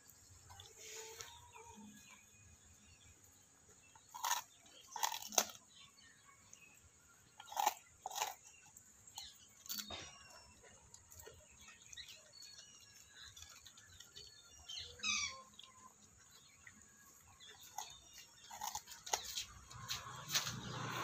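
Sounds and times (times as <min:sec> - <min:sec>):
dog chewing crunchy sugarcane: 0:03.7 - 0:21.0.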